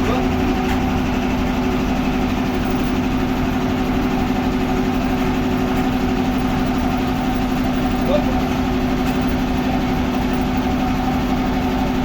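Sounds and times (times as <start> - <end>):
sawmill machinery humming: 0.0 - 12.0.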